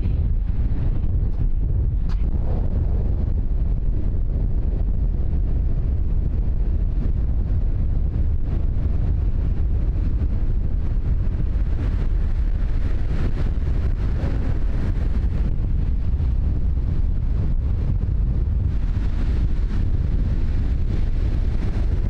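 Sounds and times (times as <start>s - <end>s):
storm wind blasting microphone: 0.0s - 22.0s.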